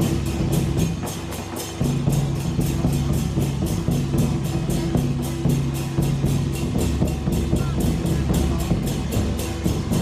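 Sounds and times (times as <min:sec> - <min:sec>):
large drums beating: 0:00.0 - 0:10.0.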